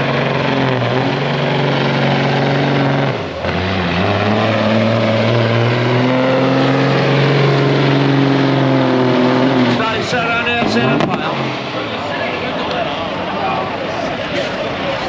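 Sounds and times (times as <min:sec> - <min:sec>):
diesel truck engine at full throttle: 0:00.0 - 0:15.0.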